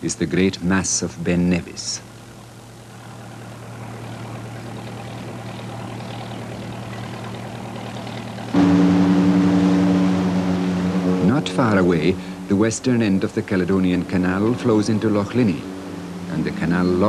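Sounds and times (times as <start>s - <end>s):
faint low hum and hiss: 0.0s - 17.0s
boat engine idling: 2.3s - 17.0s.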